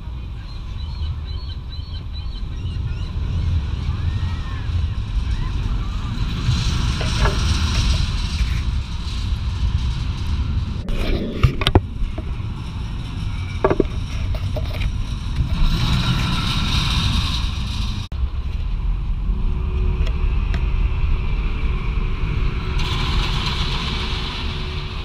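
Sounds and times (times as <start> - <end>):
roller coaster train on steel track: 0.0 - 25.0
wind on microphone: 0.0 - 25.0.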